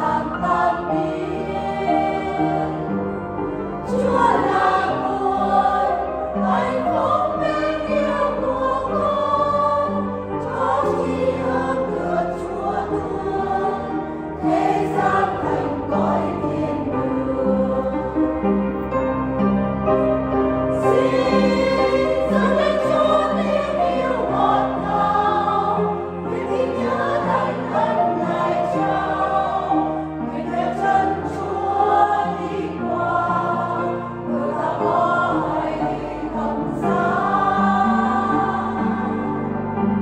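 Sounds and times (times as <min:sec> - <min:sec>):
choir singing a hymn: 0:00.0 - 0:40.0.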